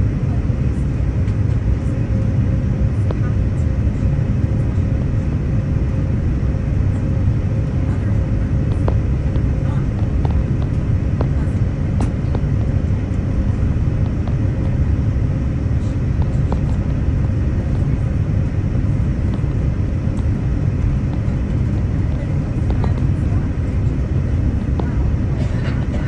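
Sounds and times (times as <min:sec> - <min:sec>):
airplane cabin engine rumble: 0:00.0 - 0:26.0
faint steady hum: 0:00.0 - 0:26.0.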